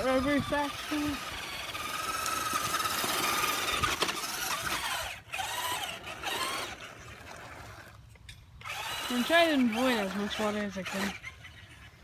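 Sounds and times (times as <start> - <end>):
electric rc car motor whining: 0.0 - 12.0.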